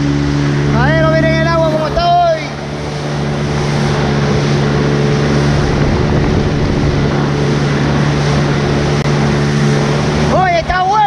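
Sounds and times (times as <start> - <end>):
motorboat engine running: 0.0 - 11.0
rushing water: 0.0 - 11.0
wind: 0.0 - 11.0.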